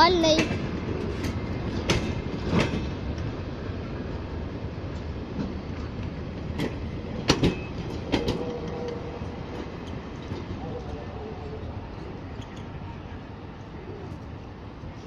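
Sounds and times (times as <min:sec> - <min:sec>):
wheels clicking over rail joints: 0:00.0 - 0:12.9
train wheels rumbling on rail: 0:00.0 - 0:15.0.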